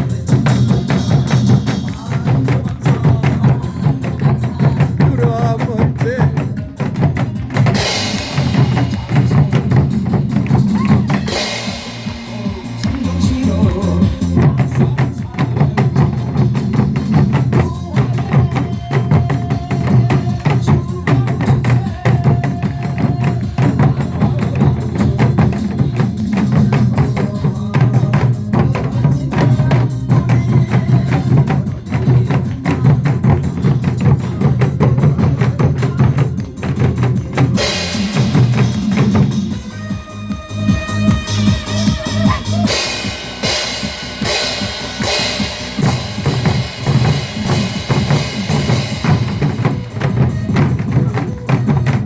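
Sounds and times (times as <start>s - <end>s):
backing music with strong beat: 0.0s - 52.0s
hourglass drums beaten in rhythm: 0.0s - 52.0s.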